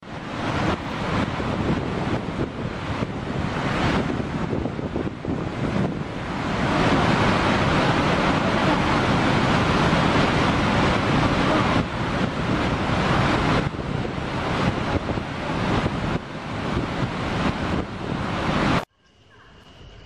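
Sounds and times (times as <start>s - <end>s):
water rushing roar: 0.0s - 18.9s
wind on microphone: 0.0s - 18.9s.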